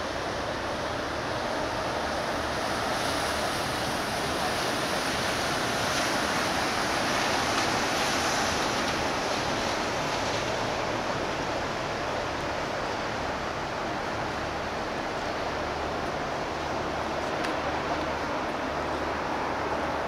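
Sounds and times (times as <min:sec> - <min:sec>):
ship running noise: 0:00.0 - 0:20.0
water washing along ship hull: 0:00.0 - 0:20.0.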